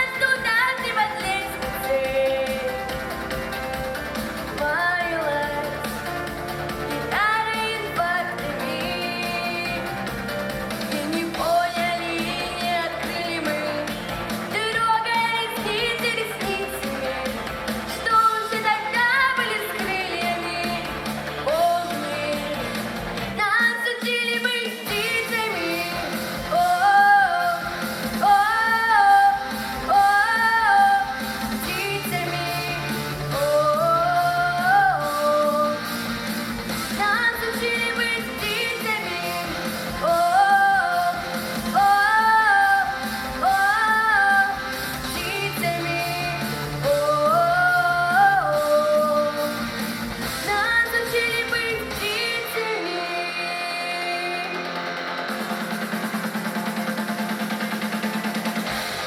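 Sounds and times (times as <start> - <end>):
person singing: 0.0 - 36.2, 36.9 - 56.1
backing track with bass line: 0.0 - 59.0.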